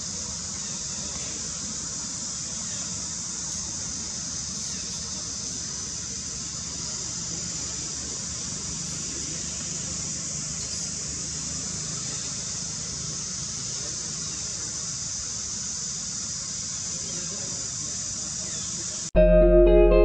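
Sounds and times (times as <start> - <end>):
steady high-pitched hiss: 0.0 - 19.1.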